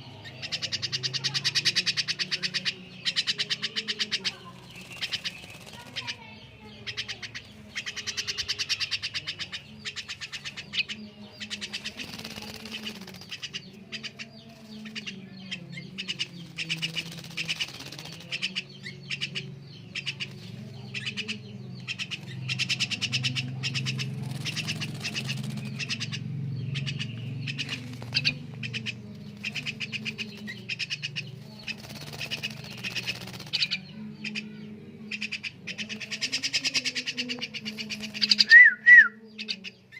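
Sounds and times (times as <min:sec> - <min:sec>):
myna rattling chatter: 0:00.0 - 0:38.5
wings flapping: 0:00.2 - 0:15.2, 0:15.8 - 0:19.4, 0:20.1 - 0:33.9, 0:35.2 - 0:38.6.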